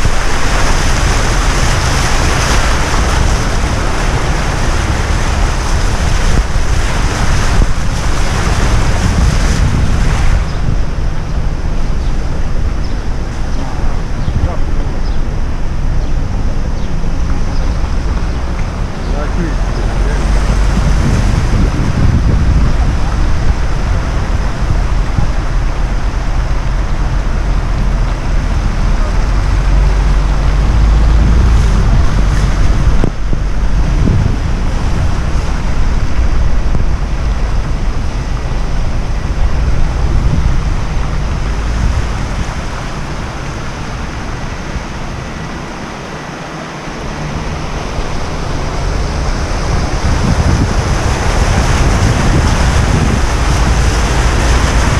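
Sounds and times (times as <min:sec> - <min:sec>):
deep rumble: 0:00.0 - 0:54.9
rush of flood water: 0:00.0 - 0:54.9
wind buffeting microphone: 0:00.0 - 0:54.9.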